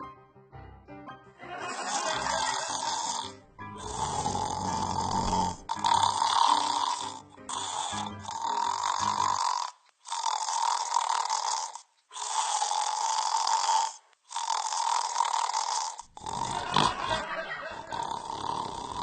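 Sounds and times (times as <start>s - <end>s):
snore-like rasping: 1.7s - 19.0s.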